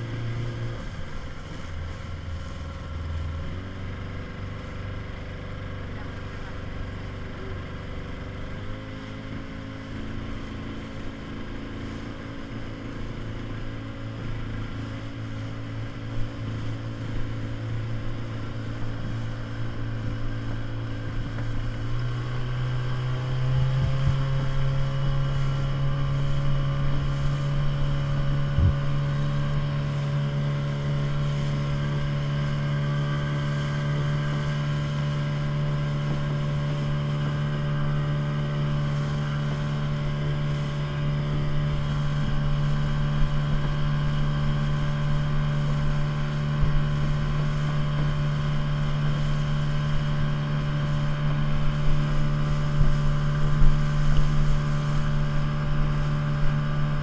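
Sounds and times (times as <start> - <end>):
speedboat engine running: 0.0 - 57.0
water noise: 0.0 - 57.0
wind: 0.0 - 57.0.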